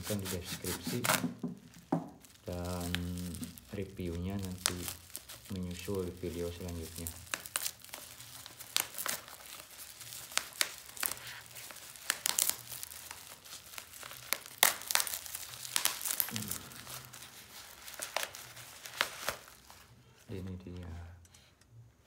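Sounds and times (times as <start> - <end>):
plastic packaging crinkling and tearing: 0.0 - 20.8.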